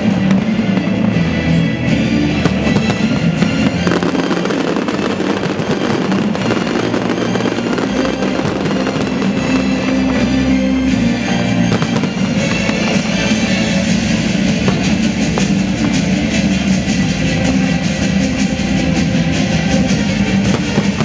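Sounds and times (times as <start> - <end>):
fireworks bursting and crackling: 0.0 - 21.0
loud music: 0.0 - 21.0.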